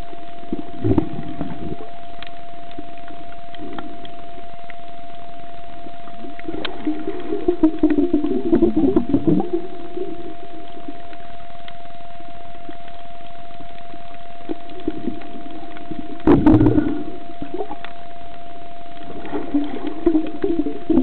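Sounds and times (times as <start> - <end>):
electronic whine: 0.0 - 21.0
rumbling water swirl: 0.0 - 21.0
steady hiss: 0.0 - 21.0.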